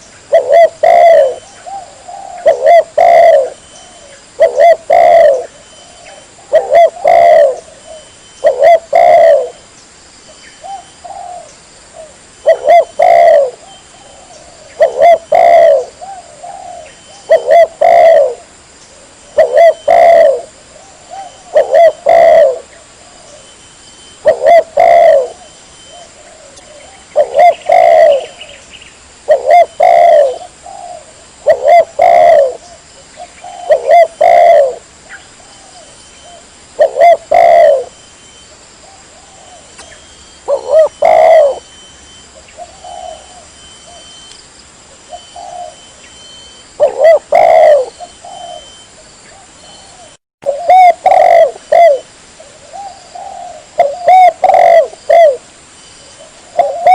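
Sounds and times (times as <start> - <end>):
dove cooing: 0.0 - 9.6, 10.6 - 28.6, 29.2 - 44.3, 44.9 - 56.9.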